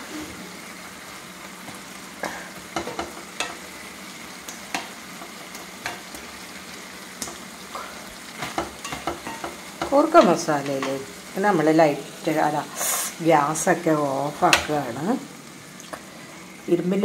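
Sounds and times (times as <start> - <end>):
faint sizzle from pan: 0.0 - 17.0.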